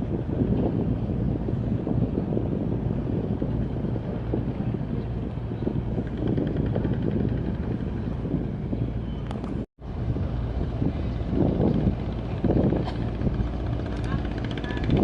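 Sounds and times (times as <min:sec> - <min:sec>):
boat engine rumbling: 0:00.0 - 0:15.0
wind buffeting microphone: 0:00.0 - 0:15.0.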